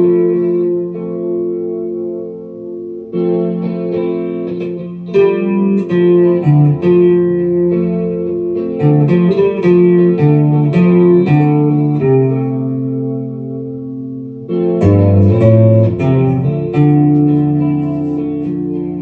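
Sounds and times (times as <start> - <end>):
electric guitar with chorus and echo: 0.0 - 19.0.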